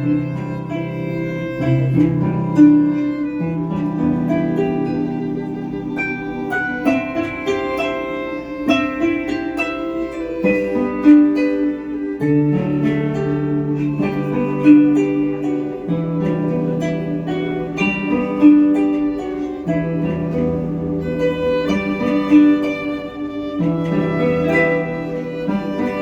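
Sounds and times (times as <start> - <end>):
harp playing slow melody: 0.0 - 26.0.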